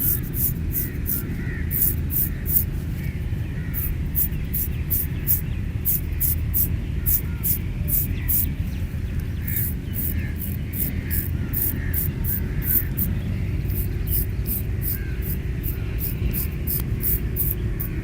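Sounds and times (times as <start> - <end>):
razor scraping strokes: 0.0 - 2.8, 3.7 - 8.5, 9.5 - 18.0
steady low hum: 0.0 - 18.0.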